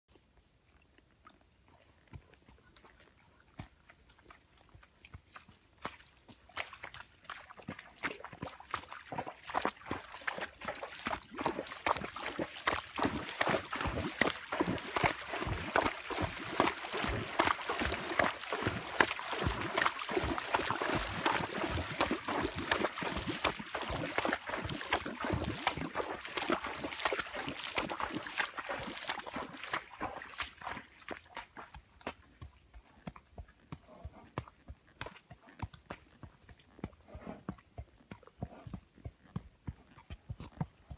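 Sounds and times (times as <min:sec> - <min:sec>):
hooves splashing through water: 0:00.2 - 0:40.9.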